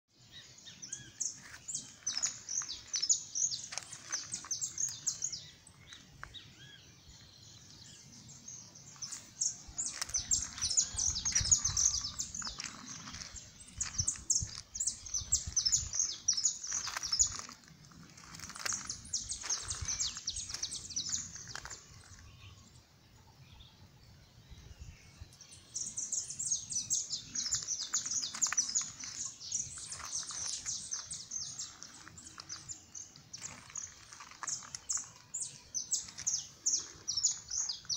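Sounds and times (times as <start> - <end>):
small birds chirping: 0.1 - 37.9.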